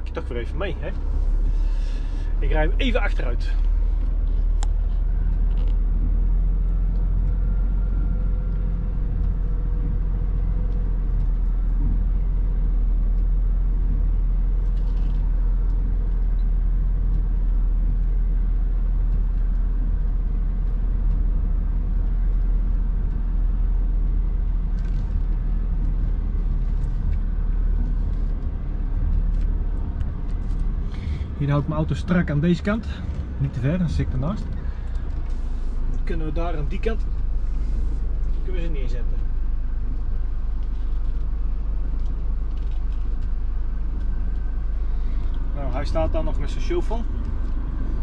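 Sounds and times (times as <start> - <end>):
truck engine rumbling: 0.0 - 48.0.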